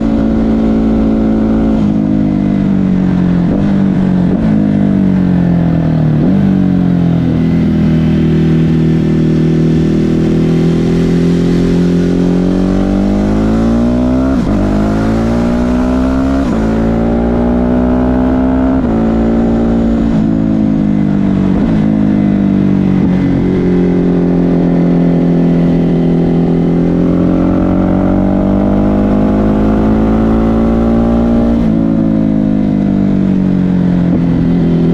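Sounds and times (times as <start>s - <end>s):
motorcycle engine revving under load: 0.0s - 34.9s.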